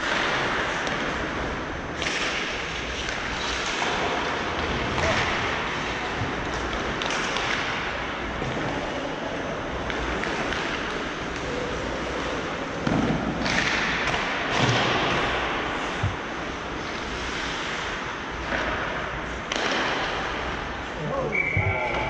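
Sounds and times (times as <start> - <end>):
hockey stick hitting puck: 0.0 - 9.1, 9.7 - 20.7
skates rushing on ice: 0.0 - 22.0.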